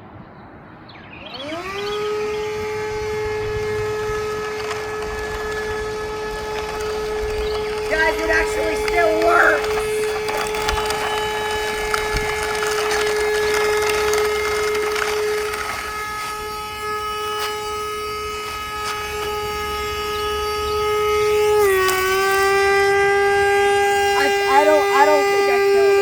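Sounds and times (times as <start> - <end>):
vacuum motor whining: 1.3 - 26.0.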